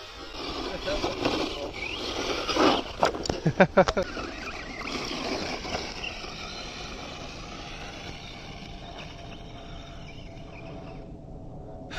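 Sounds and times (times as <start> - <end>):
toy truck electric motor whining: 0.0 - 11.1.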